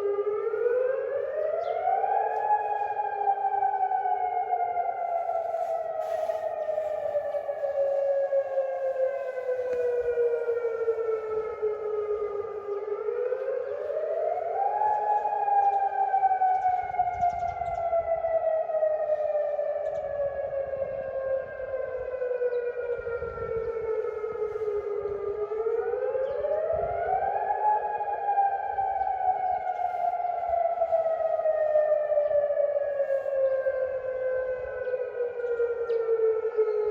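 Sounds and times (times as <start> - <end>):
siren wailing: 0.0 - 36.9.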